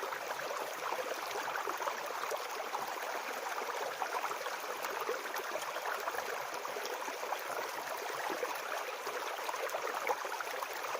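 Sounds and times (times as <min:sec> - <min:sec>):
brook babbling: 0:00.0 - 0:10.9.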